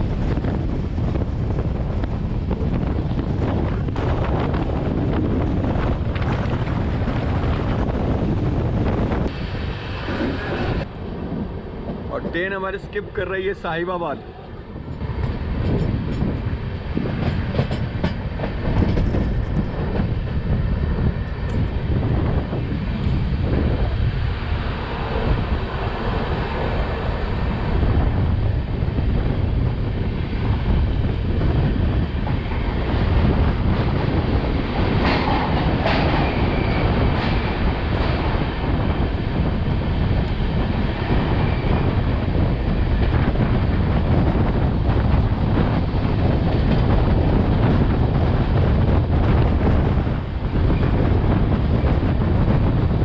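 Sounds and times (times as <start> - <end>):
train wheels rumbling and clattering: 0.0 - 13.8, 14.4 - 53.0
wind buffeting the microphone: 0.0 - 53.0.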